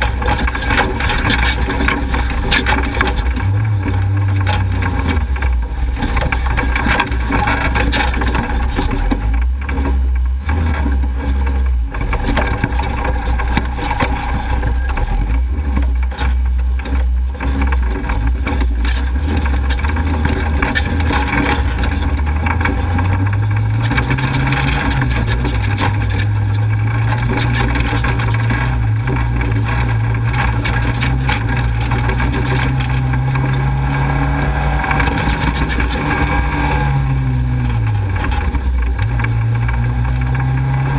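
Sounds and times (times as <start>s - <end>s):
knocks and rattles: 0.0s - 40.9s
race vehicle engine running hard: 0.0s - 40.9s.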